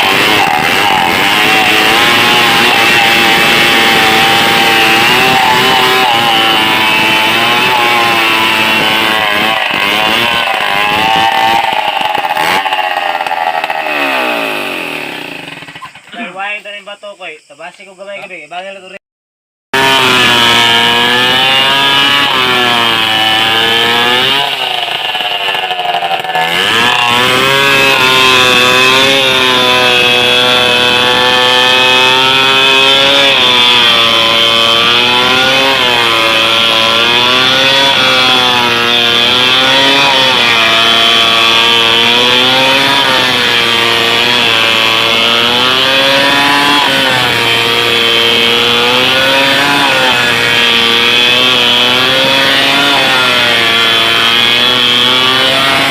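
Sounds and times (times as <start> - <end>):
chainsaw sawing a tree: 0.0 - 16.4, 19.8 - 55.9.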